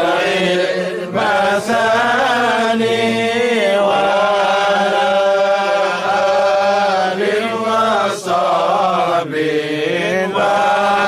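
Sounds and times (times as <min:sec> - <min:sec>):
men chanting in unison: 0:00.0 - 0:11.0.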